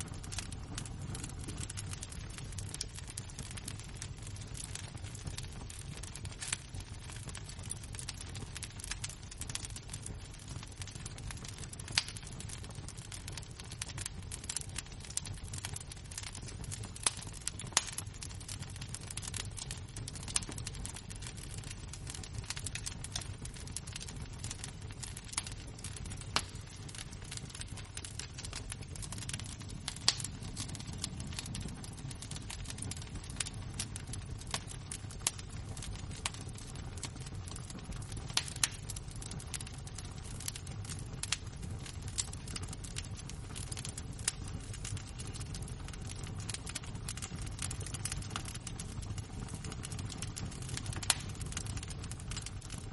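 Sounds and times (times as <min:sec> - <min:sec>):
embers crackling and popping: 0:00.0 - 0:52.9.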